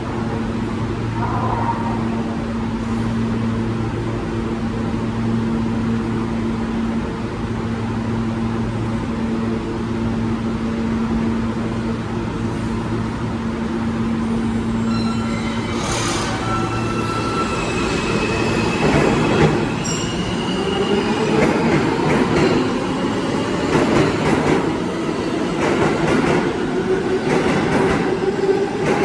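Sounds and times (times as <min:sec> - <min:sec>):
train approaching with whining tones: 0:00.0 - 0:29.0.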